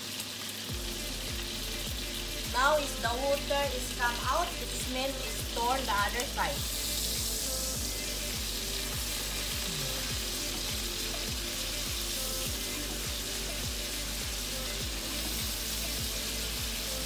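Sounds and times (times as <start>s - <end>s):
meat sizzling in a frying pan: 0.0s - 17.0s
background music with steady beat: 0.6s - 17.0s.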